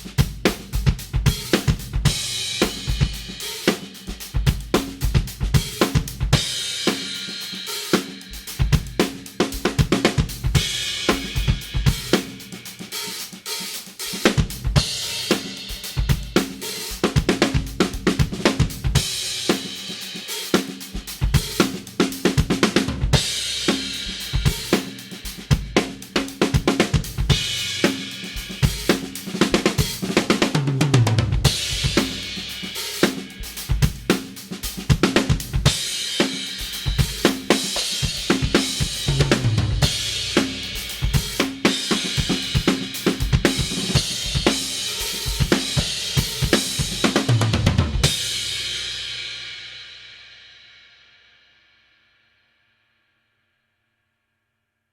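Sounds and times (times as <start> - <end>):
drum kit groove: 0.0 - 50.1.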